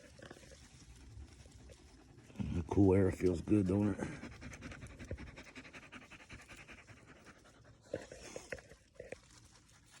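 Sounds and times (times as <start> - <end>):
dog panting: 1.0 - 10.0.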